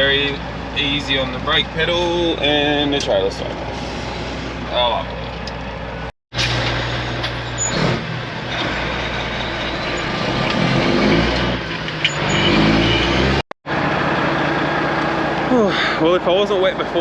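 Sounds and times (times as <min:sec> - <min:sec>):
truck diesel engine running: 0:00.0 - 0:12.1, 0:13.7 - 0:17.0.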